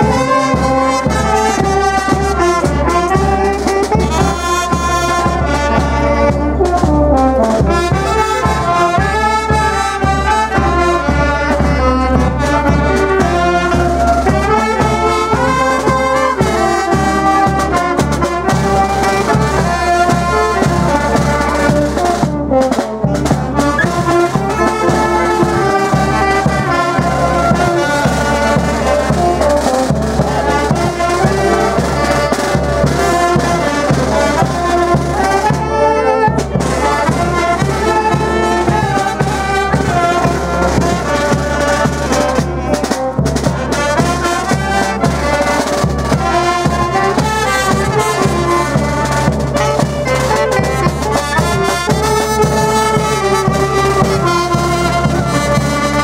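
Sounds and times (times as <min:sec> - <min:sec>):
brass band playing dance tune: 0:00.0 - 0:56.0.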